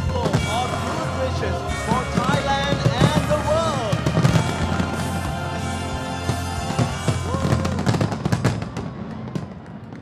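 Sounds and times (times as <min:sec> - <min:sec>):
background music: 0:00.0 - 0:09.9
fireworks bursting and crackling: 0:00.0 - 0:10.0.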